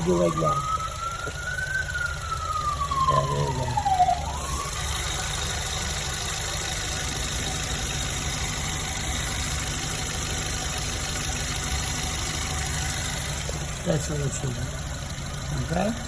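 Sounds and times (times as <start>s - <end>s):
car engine idling with misfire: 0.0s - 16.0s.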